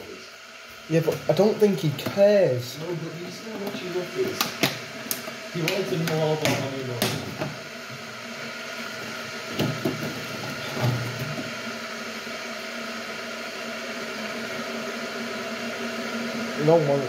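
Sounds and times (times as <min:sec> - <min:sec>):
electric kettle heating water: 0:00.0 - 0:17.0.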